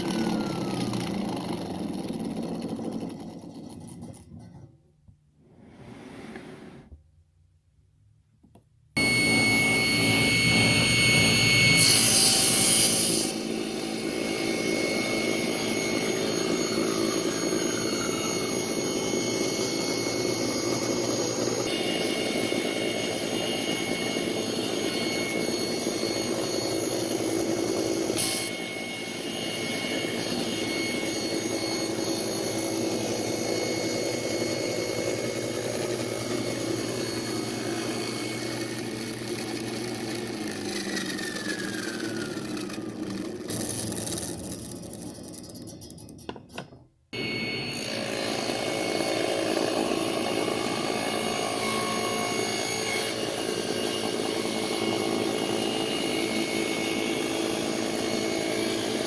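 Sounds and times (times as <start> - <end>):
woodworking machinery running: 0.0 - 4.5, 9.0 - 59.0.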